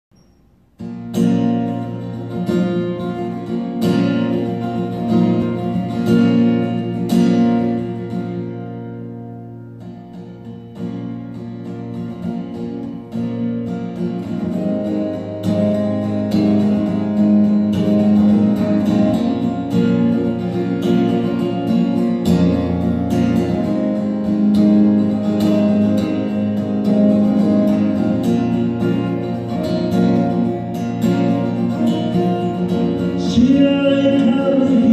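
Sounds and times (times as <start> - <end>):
acoustic guitar strumming: 0.1 - 34.9.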